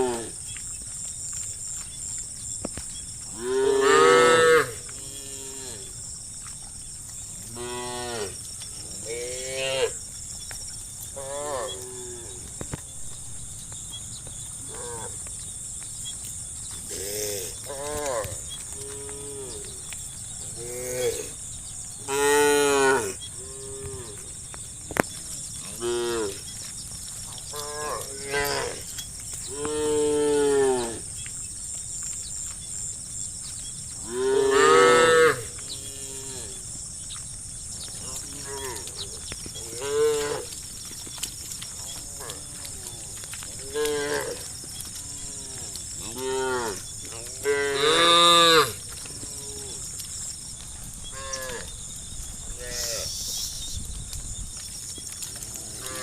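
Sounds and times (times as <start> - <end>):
steady high-pitched hiss: 0.0 - 56.0.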